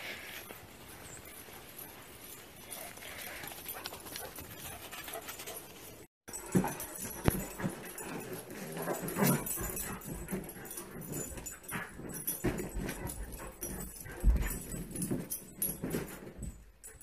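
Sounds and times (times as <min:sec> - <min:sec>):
paws thumping and scuffling on bedding: 0:00.2 - 0:17.0.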